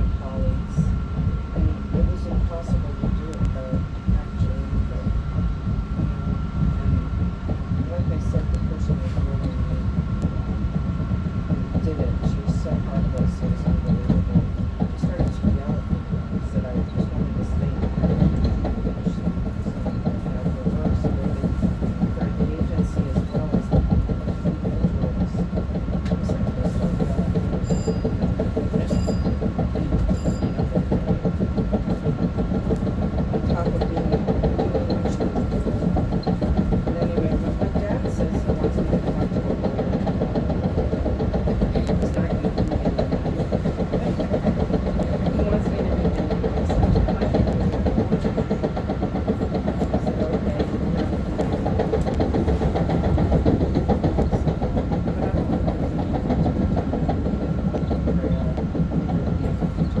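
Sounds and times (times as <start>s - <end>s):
train wheels rumbling: 0.0s - 60.0s.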